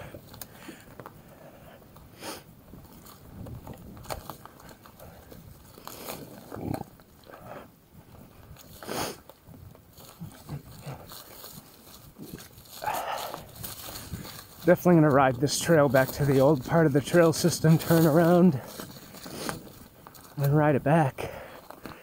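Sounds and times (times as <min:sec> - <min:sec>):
bike rattling over bumps: 0:00.0 - 0:22.0
tyres crunching on dirt: 0:00.0 - 0:22.0.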